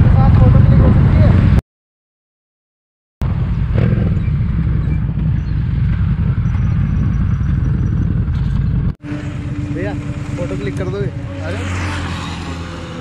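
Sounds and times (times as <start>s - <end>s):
motorcycle engine rumbling: 0.0s - 1.6s, 3.2s - 13.0s.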